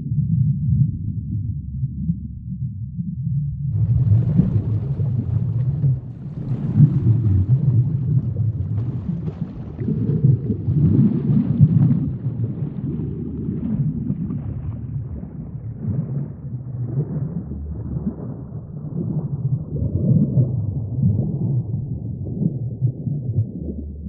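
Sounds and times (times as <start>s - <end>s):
low rumble of moving water: 0.0s - 24.0s
faint crackle: 3.7s - 24.0s.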